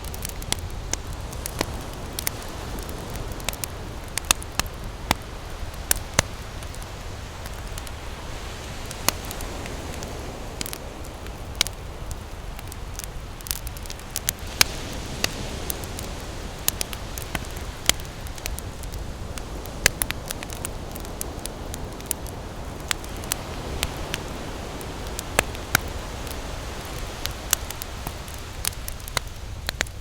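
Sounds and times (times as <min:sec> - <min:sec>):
campfire crackling and popping: 0:00.0 - 0:30.0
ocean surf rushing: 0:00.0 - 0:30.0.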